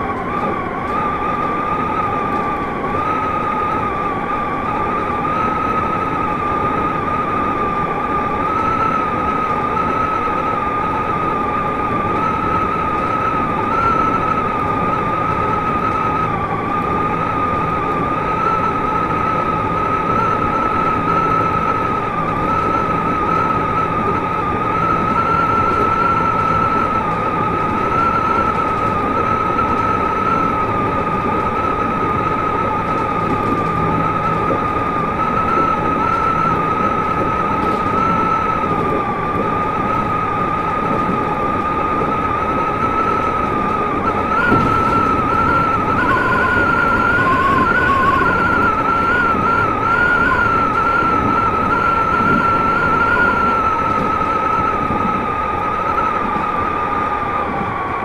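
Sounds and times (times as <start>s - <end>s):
electric train rumbling: 0.0s - 58.0s
high train whine: 0.0s - 58.0s
lower tone: 0.0s - 58.0s.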